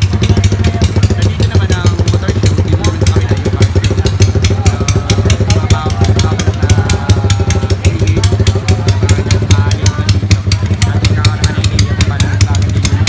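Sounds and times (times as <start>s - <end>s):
faint voices: 0.0s - 13.0s
motorcycle engine idling: 0.0s - 13.0s.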